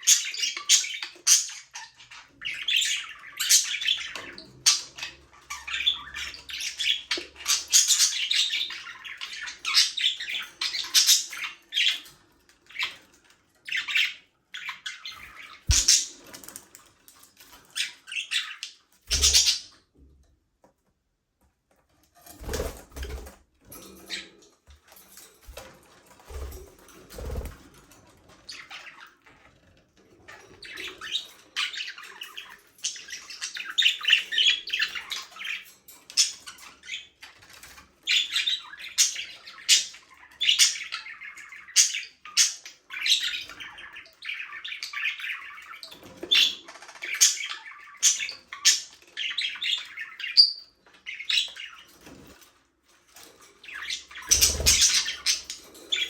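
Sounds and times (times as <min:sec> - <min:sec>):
budgerigars chirping and chattering: 0:00.0 - 0:19.8, 0:25.5 - 0:27.6, 0:28.2 - 0:29.6, 0:30.2 - 0:52.6, 0:53.2 - 0:56.0.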